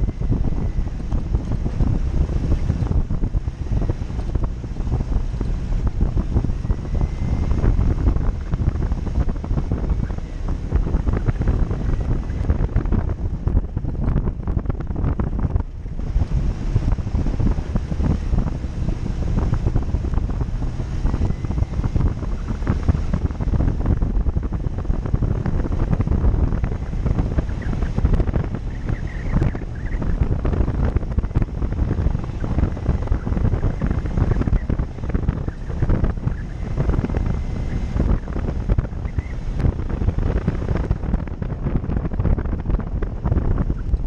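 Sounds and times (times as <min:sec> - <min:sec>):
off-road vehicle rumbling: 0:00.0 - 0:44.0
wind buffeting microphone: 0:00.0 - 0:44.0.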